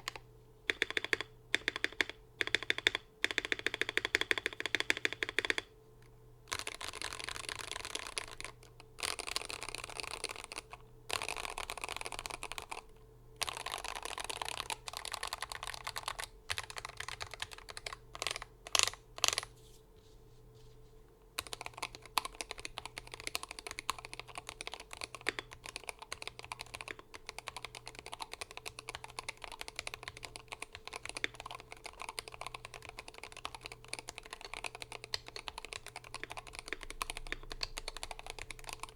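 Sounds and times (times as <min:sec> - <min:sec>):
keyboard typing: 0:00.0 - 0:05.7, 0:06.5 - 0:19.5, 0:21.4 - 0:38.9.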